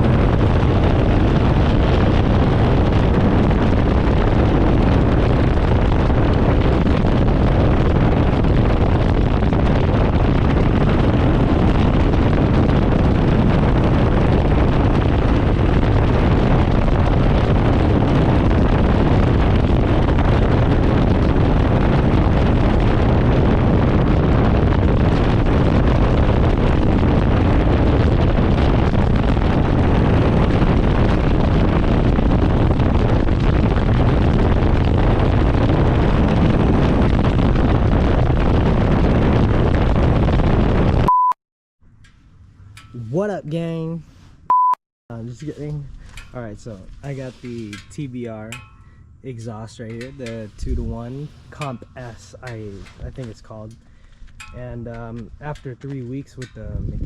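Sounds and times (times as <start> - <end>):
wind noise on microphone: 0.0 - 41.3, 41.9 - 57.0.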